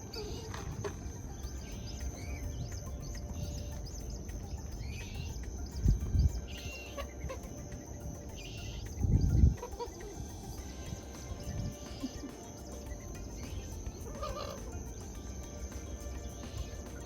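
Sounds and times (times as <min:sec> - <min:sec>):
bird chirping: 0:00.0 - 0:17.0
steady high whine: 0:00.0 - 0:17.0
wetland ambience: 0:00.0 - 0:17.0.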